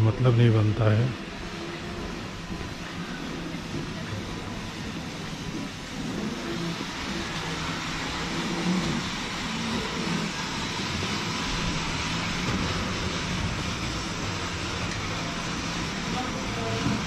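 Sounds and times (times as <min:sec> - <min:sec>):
terminal hall rumble: 0:00.0 - 0:17.0.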